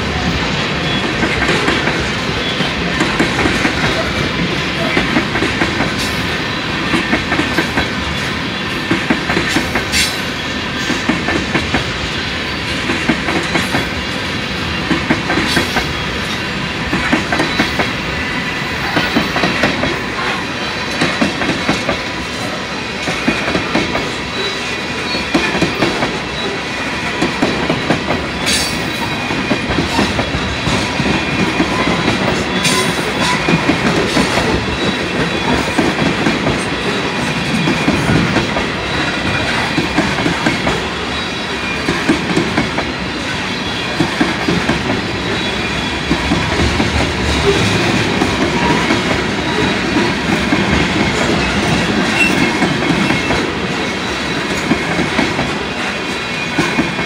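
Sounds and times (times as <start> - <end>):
train wheels clacking over track: 0.0 - 57.0.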